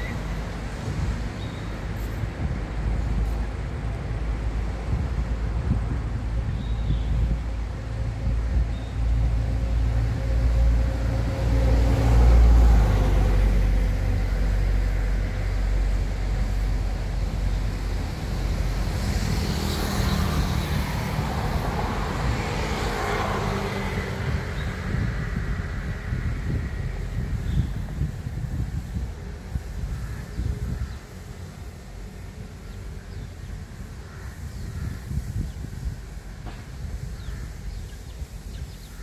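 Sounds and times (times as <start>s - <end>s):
hiss of passing vehicles: 0.0s - 39.0s
traffic rumble: 0.0s - 39.0s.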